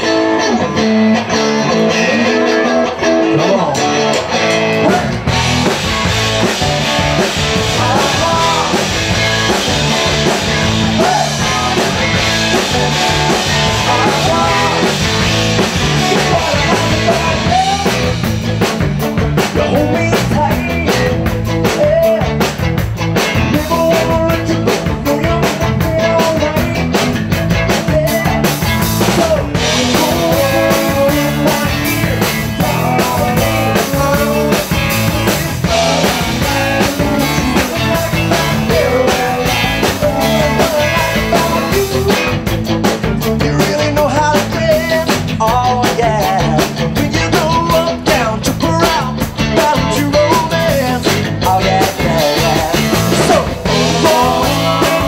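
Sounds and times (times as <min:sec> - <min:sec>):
person singing: 0:00.0 - 0:04.0, 0:04.7 - 0:05.8, 0:06.4 - 0:22.4, 0:23.3 - 0:55.0
bass guitar: 0:00.0 - 0:55.0
drum kit beat: 0:00.0 - 0:55.0
keyboard: 0:00.0 - 0:55.0.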